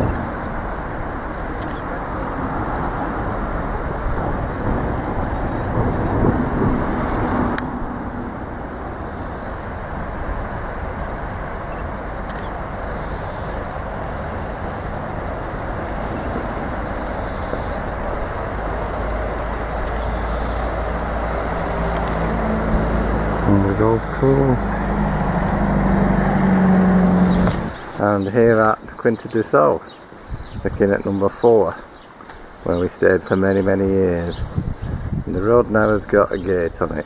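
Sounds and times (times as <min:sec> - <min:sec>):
low rushing background noise: 0:00.0 - 0:37.0.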